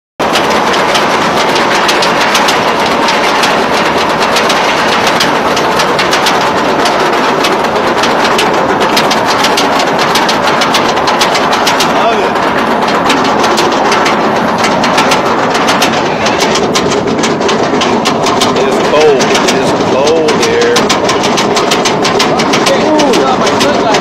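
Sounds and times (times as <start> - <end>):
roller coaster lift clacking: 0.2 - 24.0
steady rushing noise: 0.2 - 24.0.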